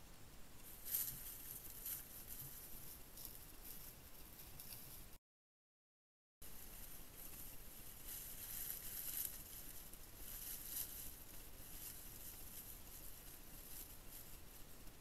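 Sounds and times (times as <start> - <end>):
rustling of dry leaves: 0.6 - 5.1, 6.4 - 15.0.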